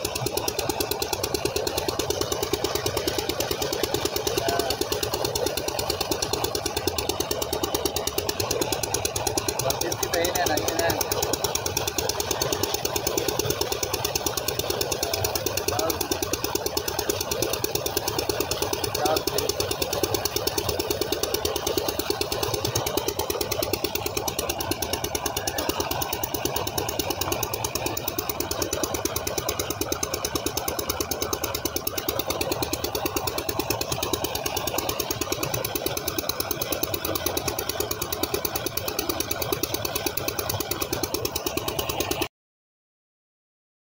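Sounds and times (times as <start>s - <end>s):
pump engine running: 0.0s - 42.3s
water gushing into tank: 0.0s - 42.3s.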